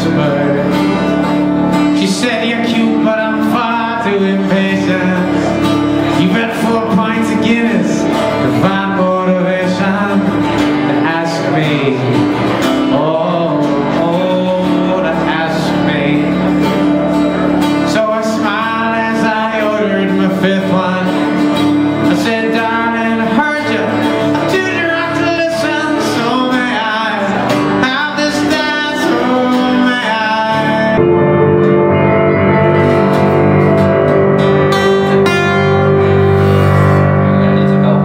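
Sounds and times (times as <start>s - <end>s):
acoustic guitar: 0.0s - 38.0s
keyboard: 0.0s - 38.0s
person singing: 0.0s - 38.0s
plucked string instrument: 0.0s - 38.0s.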